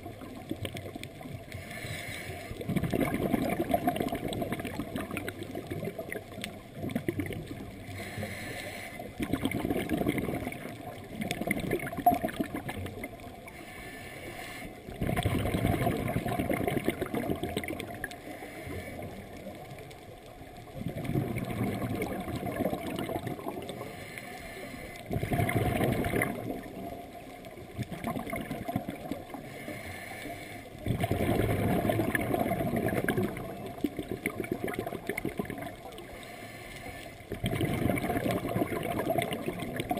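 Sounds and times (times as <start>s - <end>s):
scuba regulator exhaust bubbles: 0.0s - 13.7s, 14.8s - 39.9s.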